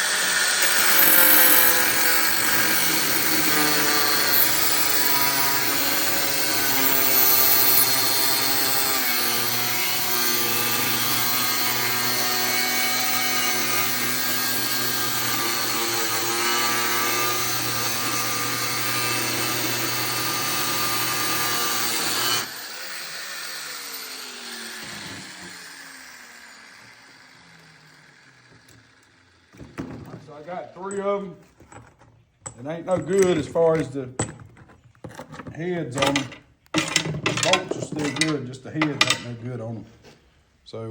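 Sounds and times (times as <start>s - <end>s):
power tool cutting bolts: 0.0s - 32.0s, 35.9s - 39.3s.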